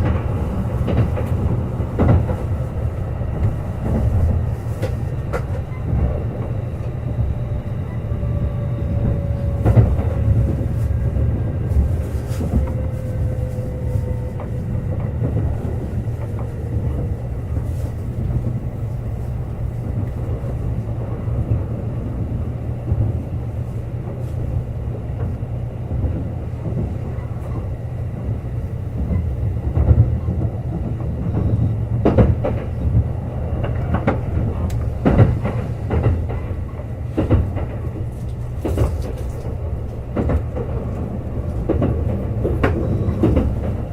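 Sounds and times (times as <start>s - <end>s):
clacks over rail joints: 0.0s - 7.0s, 8.2s - 24.5s, 25.1s - 43.9s
train wheels rumbling on rail: 0.0s - 43.9s.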